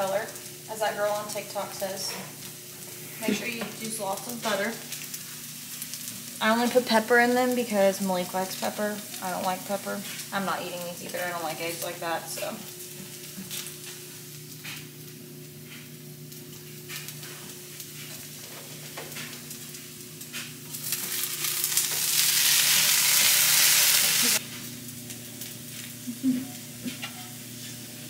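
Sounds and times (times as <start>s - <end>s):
food sizzling in pans: 0.0s - 28.0s.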